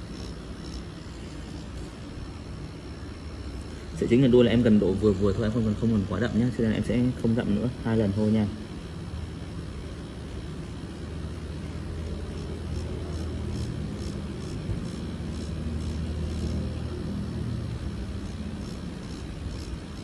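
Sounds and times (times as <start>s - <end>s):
tattoo machine humming: 0.0s - 20.0s.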